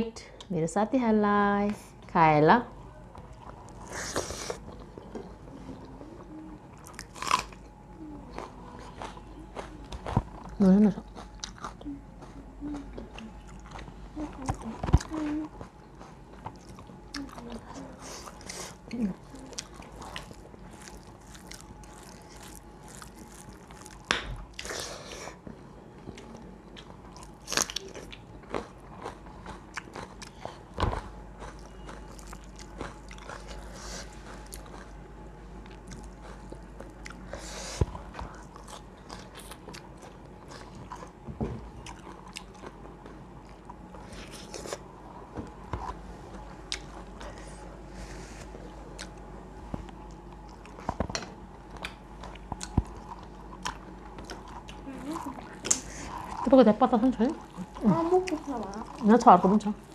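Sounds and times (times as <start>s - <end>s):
chewing and crunching food: 3.1s - 47.8s, 48.4s - 59.9s.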